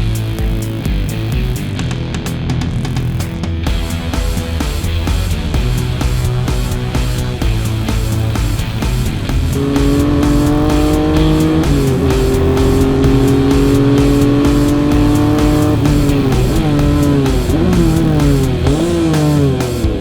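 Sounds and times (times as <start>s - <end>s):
rock music: 0.0s - 20.0s
steady drum beat: 0.0s - 20.0s
whining bending tone: 2.9s - 20.0s.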